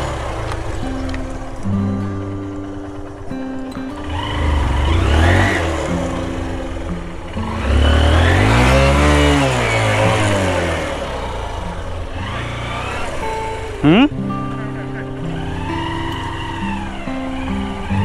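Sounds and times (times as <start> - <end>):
background music: 0.0 - 18.0
motorcycle engine revving: 0.0 - 18.0.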